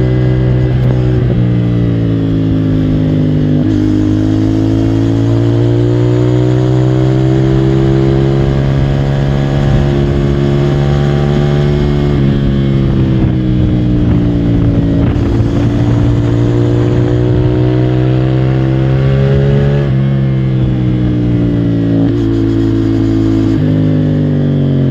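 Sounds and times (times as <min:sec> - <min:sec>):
motorcycle engine under load: 0:00.0 - 0:24.9.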